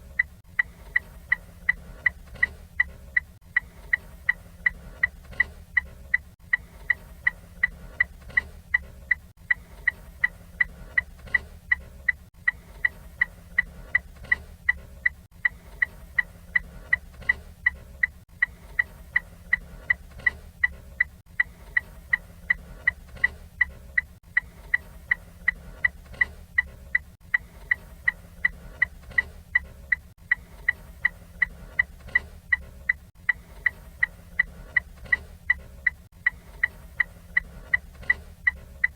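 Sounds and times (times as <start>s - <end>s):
turn signal ticking: 0.0s - 38.9s.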